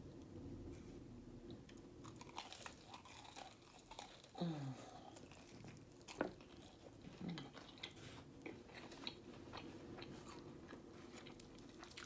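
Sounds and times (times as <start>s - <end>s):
chewing crispy chicken: 2.0s - 12.0s.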